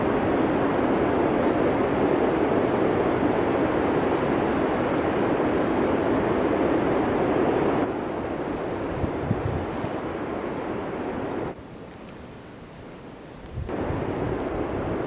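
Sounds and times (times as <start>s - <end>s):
rushing blizzard wind: 0.1s - 15.0s.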